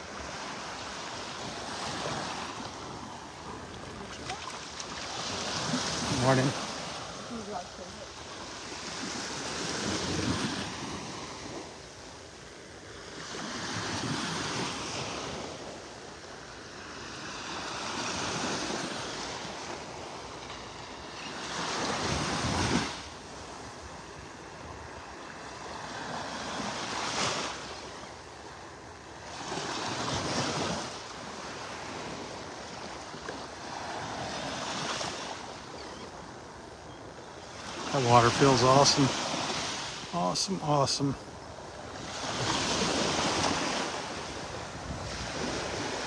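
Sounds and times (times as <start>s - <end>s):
small waves lapping on sand: 0.0s - 46.0s.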